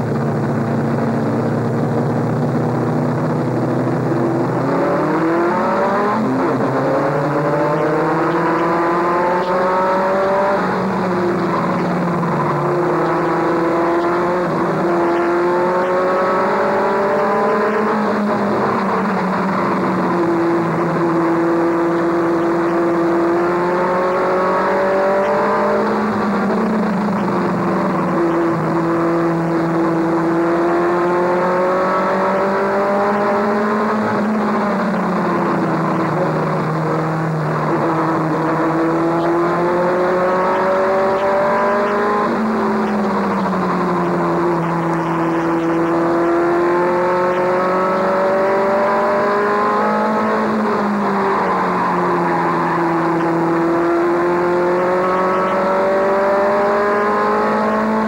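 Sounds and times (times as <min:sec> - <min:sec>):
truck engine under racing load: 0:00.0 - 0:58.0.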